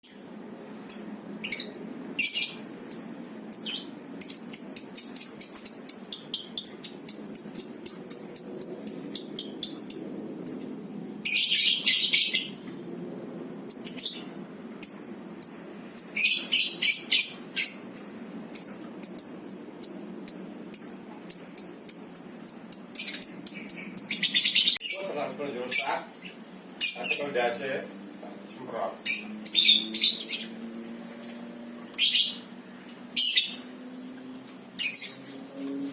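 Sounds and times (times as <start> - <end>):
lovebird chirping: 0.0 - 12.7, 13.7 - 27.4, 29.0 - 30.9, 31.9 - 32.6, 33.2 - 33.8, 34.4 - 35.9
harsh bird calls: 0.1 - 12.7, 13.7 - 27.9, 28.6 - 34.1, 34.7 - 35.9.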